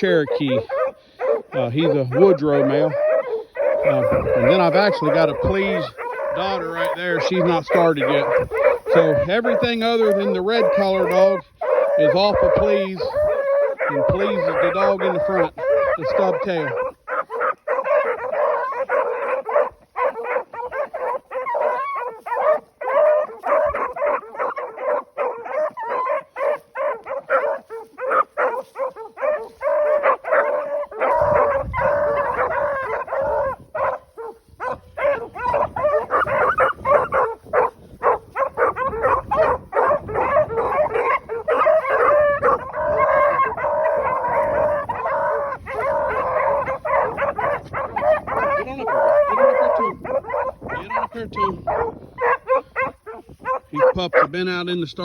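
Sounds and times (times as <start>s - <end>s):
hounds baying and barking: 0.0s - 55.0s.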